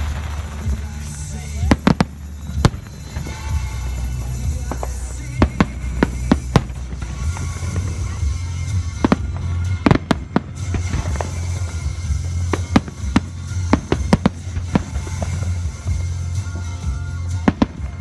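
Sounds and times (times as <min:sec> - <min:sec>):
background music: 0:00.0 - 0:18.0
fireworks bursting: 0:00.0 - 0:18.0.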